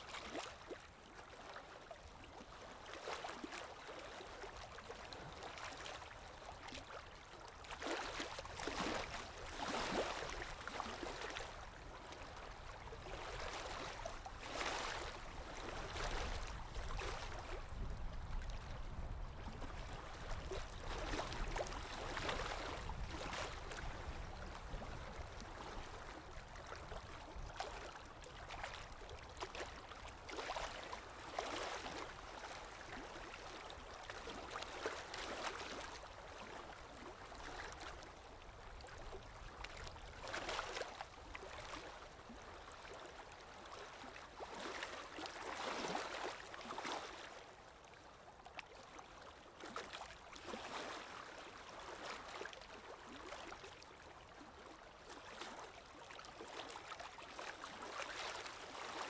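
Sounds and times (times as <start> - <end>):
stream water gurgling: 0.0 - 59.0.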